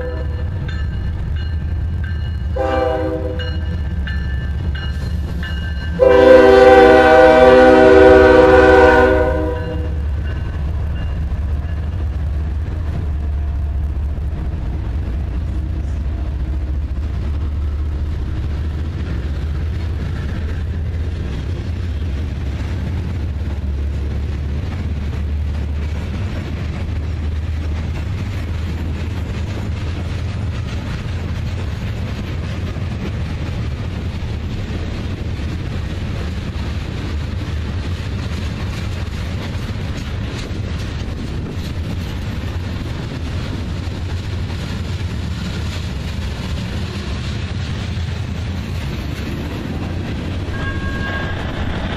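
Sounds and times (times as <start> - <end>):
freight train diesel rumble: 0.0 - 51.9.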